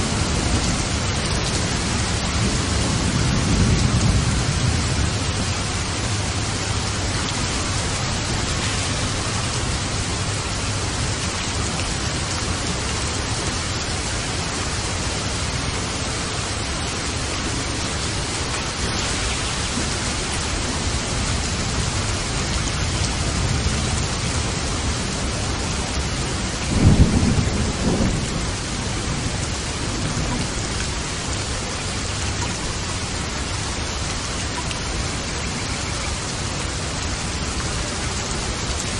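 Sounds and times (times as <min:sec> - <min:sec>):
thunder rumbling: 0:00.0 - 0:33.2
heavy rain: 0:00.0 - 0:38.9.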